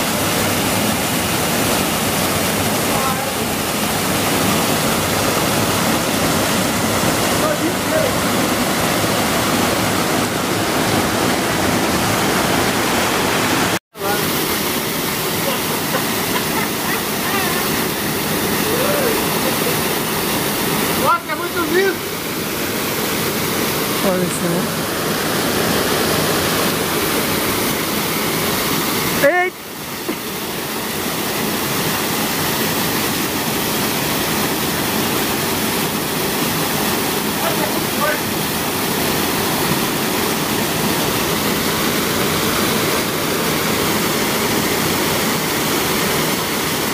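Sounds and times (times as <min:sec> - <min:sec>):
waterfall pouring into pool: 0:00.0 - 0:46.9.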